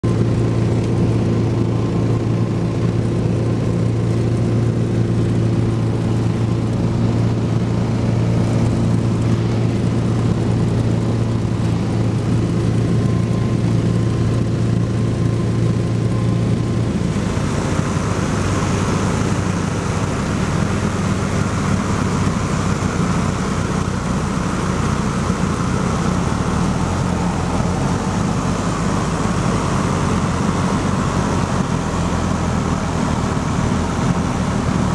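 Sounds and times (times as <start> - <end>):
propeller aircraft engine droning: 0.0 - 34.9.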